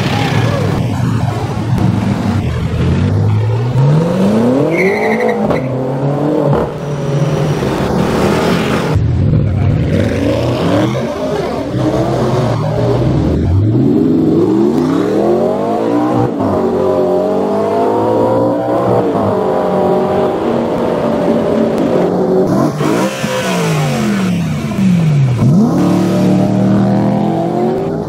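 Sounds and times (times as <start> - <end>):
sports car engines revving: 0.0 - 28.0.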